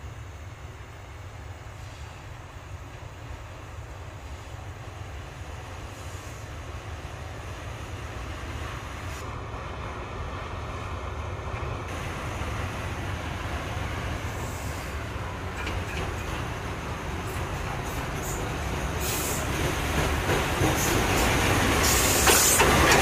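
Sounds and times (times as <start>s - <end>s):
locomotive engine rumble: 0.0s - 23.0s.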